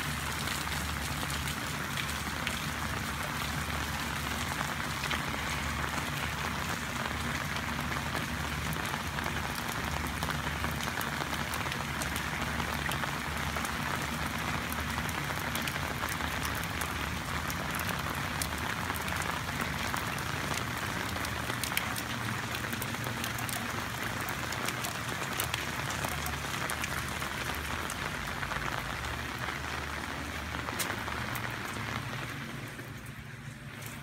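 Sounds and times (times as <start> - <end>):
rain on wet pavement: 0.0 - 34.0
raindrops ticking close by: 0.0 - 34.0.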